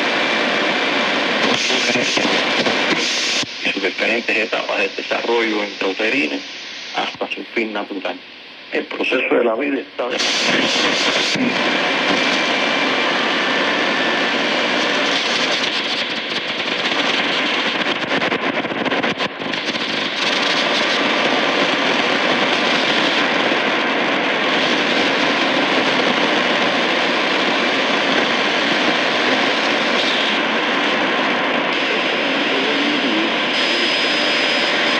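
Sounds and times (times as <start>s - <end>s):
faint steady radio tones: 0.0s - 34.9s
shortwave radio static and hiss: 0.0s - 34.9s.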